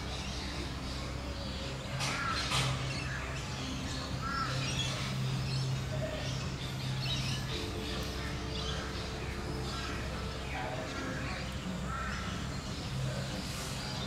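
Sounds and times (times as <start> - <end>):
birds calling: 0.0 - 14.0
steady low hum: 0.0 - 14.0.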